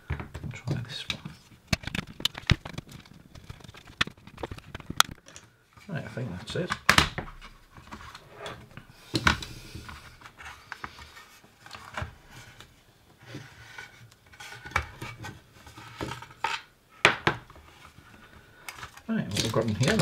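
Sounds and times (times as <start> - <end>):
plastic rubbing and scraping: 0.0 - 16.7, 17.4 - 20.0.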